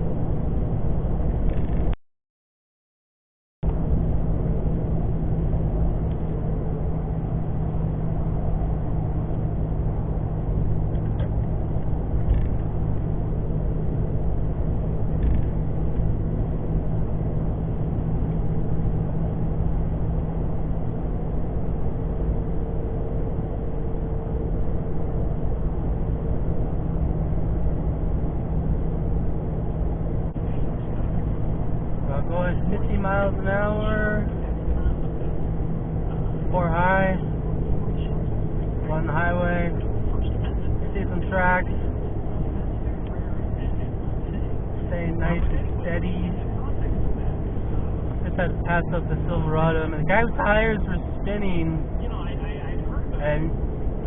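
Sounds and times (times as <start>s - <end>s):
engine and tyre rumble in car: 0.0s - 2.0s, 3.6s - 54.0s.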